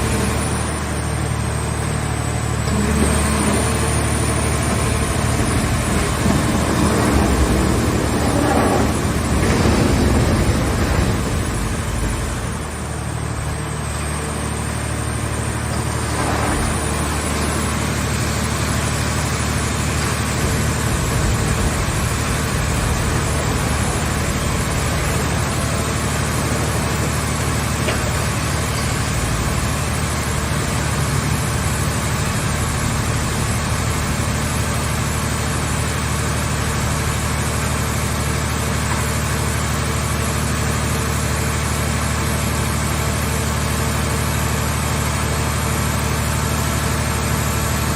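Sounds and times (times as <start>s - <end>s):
machine engine humming: 0.0s - 47.9s.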